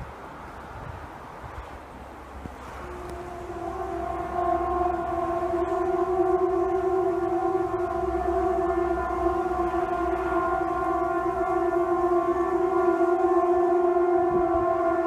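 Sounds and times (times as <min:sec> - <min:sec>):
siren-like wail: 0:02.5 - 0:15.0.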